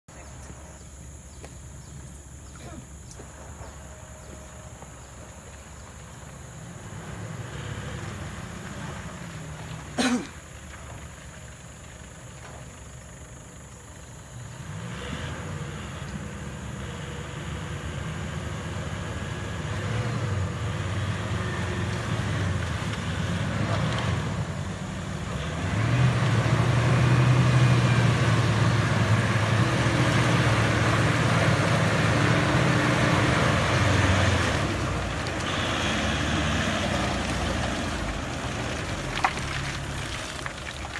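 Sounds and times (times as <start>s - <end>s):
vehicle engine driving off-road: 0.0s - 40.9s.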